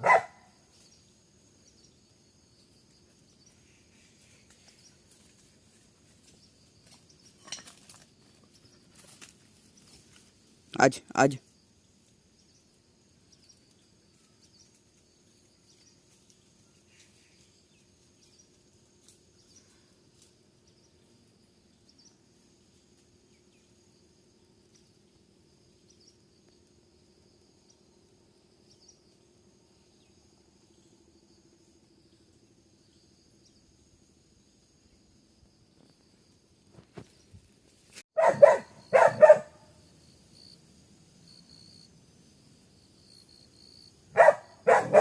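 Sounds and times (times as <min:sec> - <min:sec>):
insects chirring: 0:00.0 - 0:45.0.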